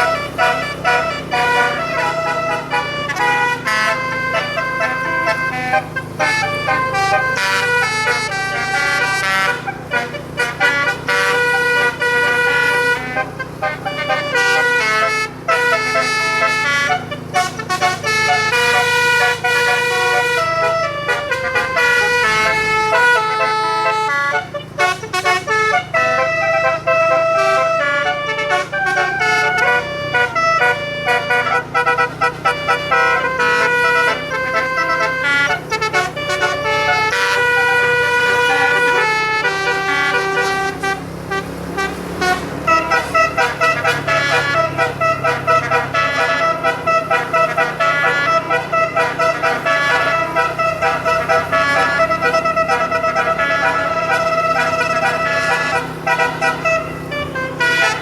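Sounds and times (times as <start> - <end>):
bus horn playing a tune: 0.0 - 58.0
low engine hum: 0.0 - 58.0.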